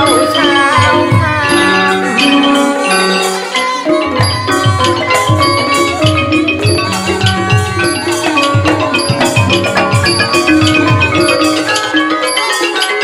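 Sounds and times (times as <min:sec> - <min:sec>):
xylophones and gong circles: 0:00.0 - 0:13.0.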